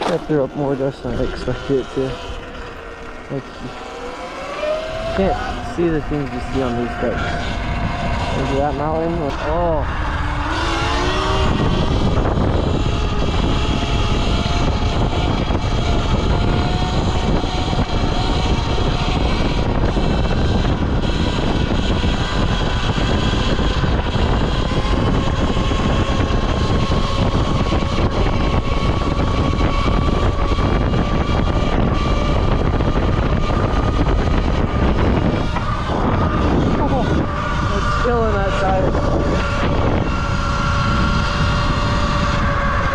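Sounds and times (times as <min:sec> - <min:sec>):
electric motorbike motor whine: 0:00.0 - 0:42.9
wind rushing over microphone: 0:00.0 - 0:42.9.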